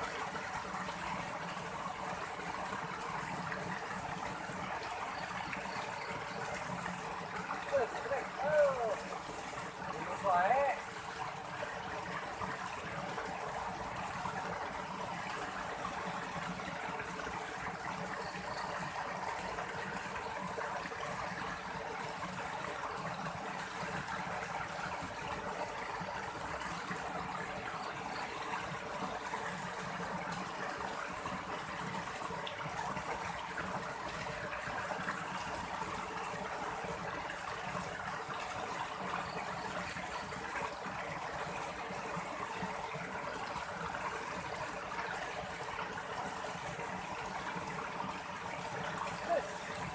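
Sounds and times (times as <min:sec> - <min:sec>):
stream water running: 0:00.0 - 0:49.9.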